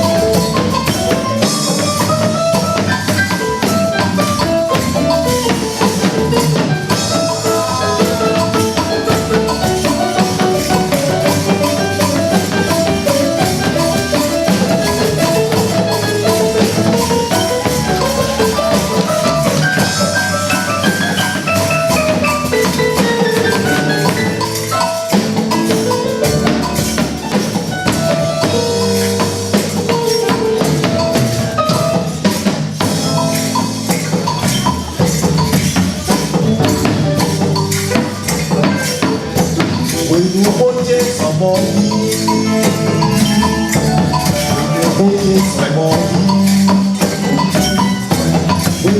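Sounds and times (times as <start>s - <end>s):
mallet percussion runs: 0.0s - 48.9s.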